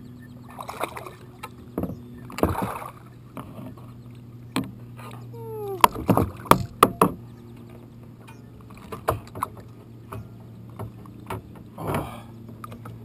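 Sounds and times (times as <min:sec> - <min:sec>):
steady low hum: 0:00.0 - 0:13.0
clicks and knocks against kayak: 0:01.2 - 0:13.0.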